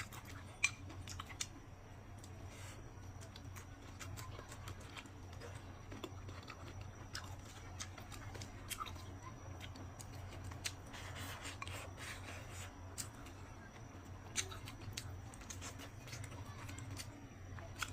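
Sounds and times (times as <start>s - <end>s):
chewing and mouth noises: 0.0s - 1.6s, 2.2s - 17.9s.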